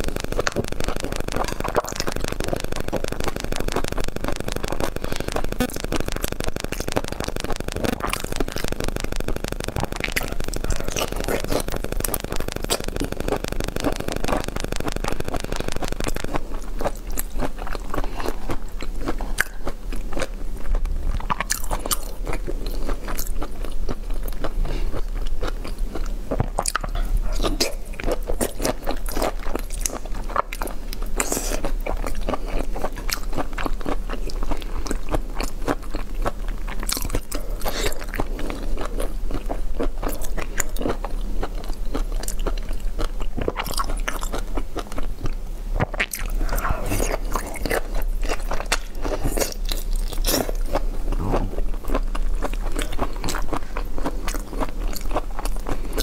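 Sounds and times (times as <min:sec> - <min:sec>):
crunchy biting and chewing: 0:00.0 - 0:56.0
steady low hum: 0:00.0 - 0:56.0.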